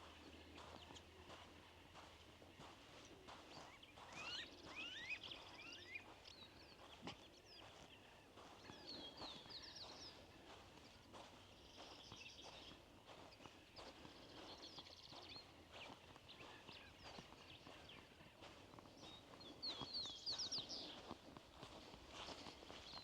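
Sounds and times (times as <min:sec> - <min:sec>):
faint birdsong: 0:00.0 - 0:23.0.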